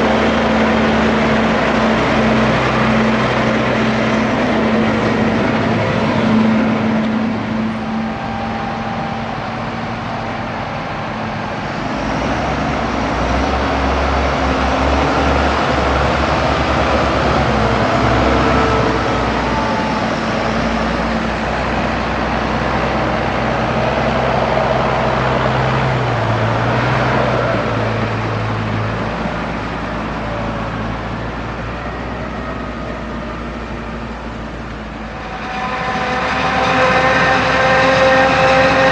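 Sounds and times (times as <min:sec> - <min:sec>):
heavy diesel farm machinery running: 0:00.0 - 0:38.9.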